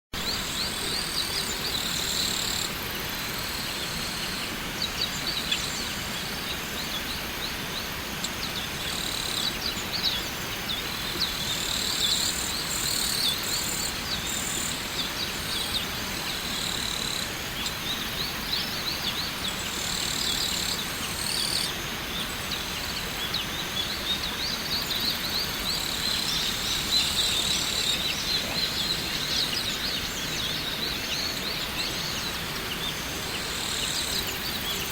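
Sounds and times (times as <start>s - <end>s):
birds chirping: 0.2s - 34.9s.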